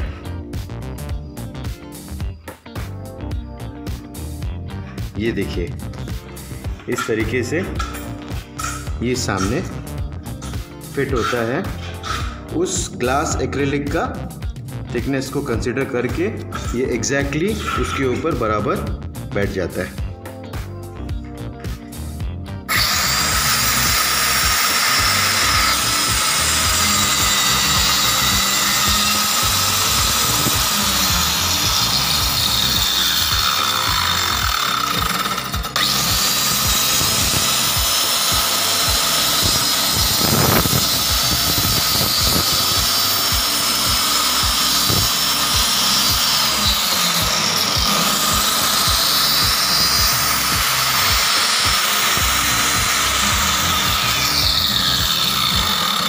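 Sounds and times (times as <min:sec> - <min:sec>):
electric cutter whining: 0:05.8 - 0:13.4, 0:15.9 - 0:19.0, 0:21.1 - 0:56.0.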